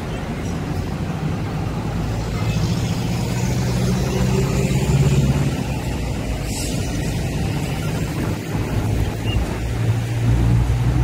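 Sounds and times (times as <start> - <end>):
road traffic rumble: 0.0 - 11.0
tram passing slowly: 0.0 - 11.0.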